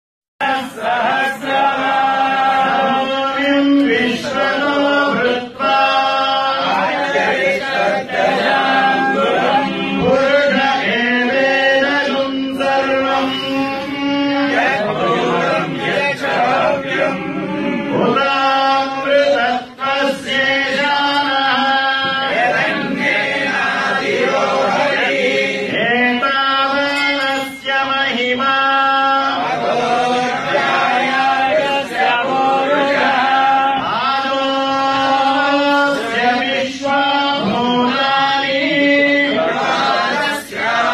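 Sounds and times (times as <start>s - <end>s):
men chanting a hymn: 0.4s - 40.9s.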